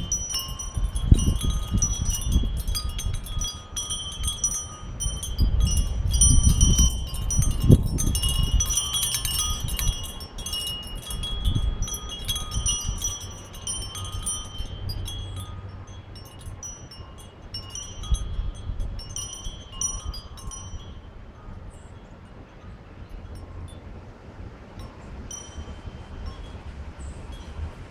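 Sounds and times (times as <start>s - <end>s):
metal wind chimes ringing: 0.0s - 23.9s, 24.8s - 27.7s
wind rumble on microphone: 0.0s - 27.9s.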